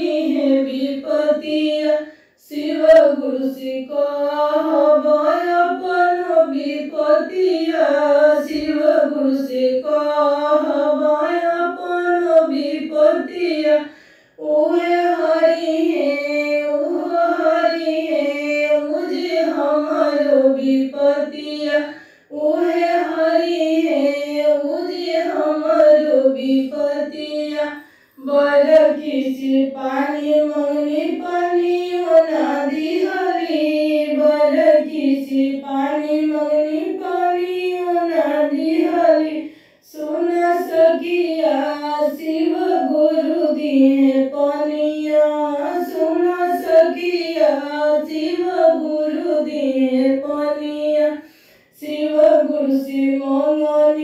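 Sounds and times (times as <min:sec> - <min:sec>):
woman singing devotional song: 0:00.0 - 0:54.0.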